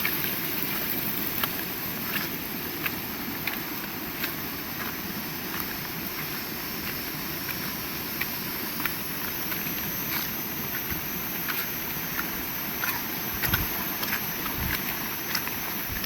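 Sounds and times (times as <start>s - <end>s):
raindrops ticking close by: 0.0s - 16.0s.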